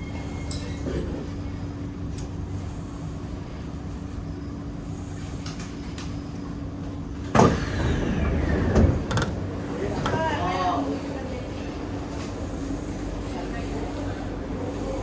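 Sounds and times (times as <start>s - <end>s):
metro train equipment hum: 0.0s - 15.0s.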